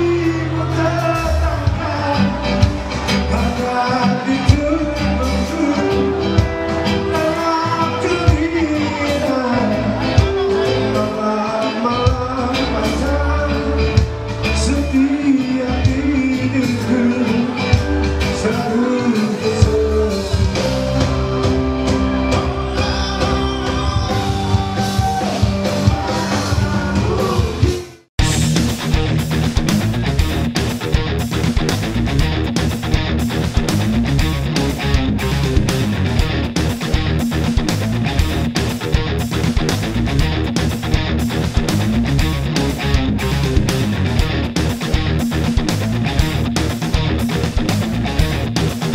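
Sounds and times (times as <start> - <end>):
loud electric guitar: 0.0 - 48.9
rock song with vocals: 0.0 - 48.9.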